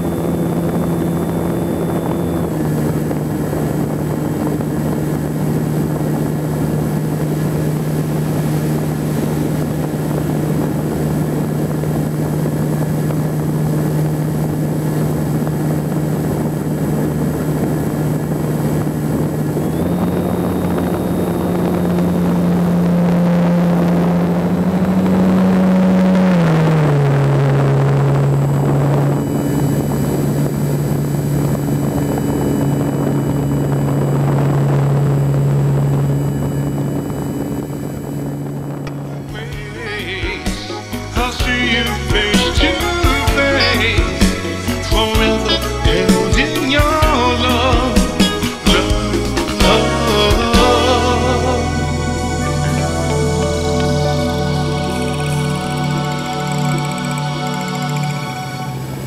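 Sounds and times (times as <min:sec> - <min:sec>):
electric motor and propeller: 0:00.0 - 0:39.4, 0:41.8 - 0:59.0.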